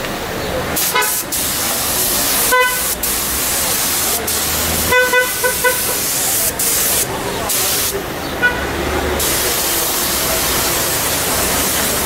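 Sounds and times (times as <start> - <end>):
paint spray gun hissing: 0.8 - 8.0, 9.2 - 12.0.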